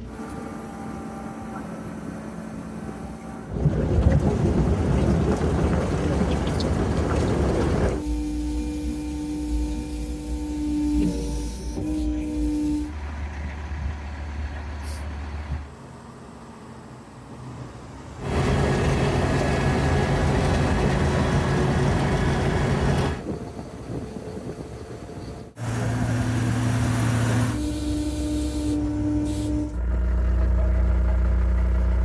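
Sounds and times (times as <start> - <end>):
heavy diesel machinery running: 0.0 - 32.0
trucks running: 0.0 - 32.0.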